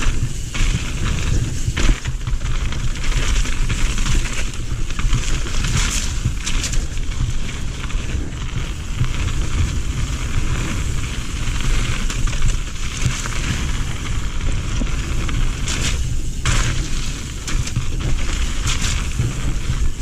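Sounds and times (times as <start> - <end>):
bike clattering and rattling: 0.0 - 20.0
bike tyres rumbling on dirt: 0.0 - 20.0
wind noise on microphone: 0.0 - 20.0.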